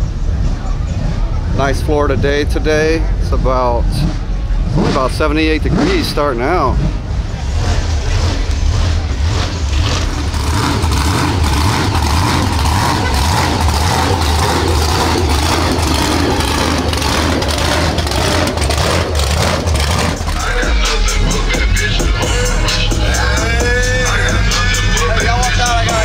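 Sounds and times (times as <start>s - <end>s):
truck engines rumbling: 0.0s - 26.0s.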